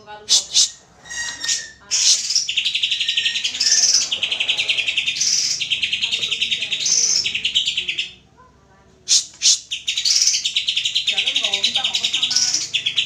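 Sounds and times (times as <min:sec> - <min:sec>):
bird trilling song: 0:00.3 - 0:08.2, 0:09.1 - 0:13.0
sharp bird calls: 0:00.3 - 0:08.2, 0:09.1 - 0:13.0.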